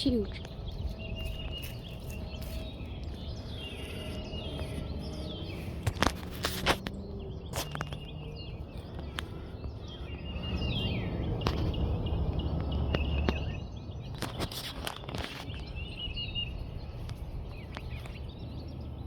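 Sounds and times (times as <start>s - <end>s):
birds chirping: 0.0s - 19.0s
jet engines rumbling: 0.0s - 19.0s.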